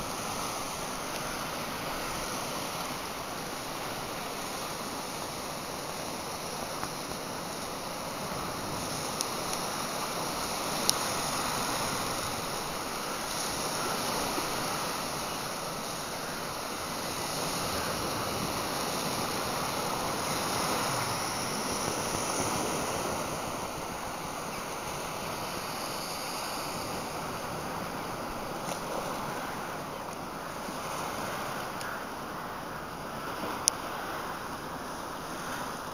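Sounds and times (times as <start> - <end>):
sea waves washing in: 0.0 - 35.9.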